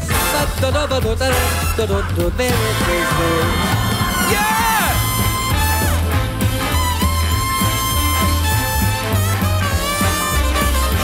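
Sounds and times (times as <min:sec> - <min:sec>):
pulsing bass line: 0:00.0 - 0:11.0.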